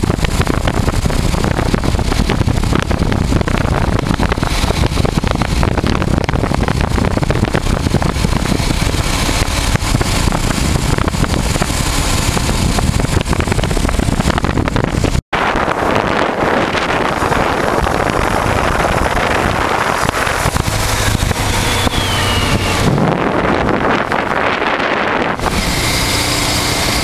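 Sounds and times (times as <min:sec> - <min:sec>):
motorcycle engine: 0:00.0 - 0:27.0
wind buffeting microphone: 0:00.0 - 0:27.0.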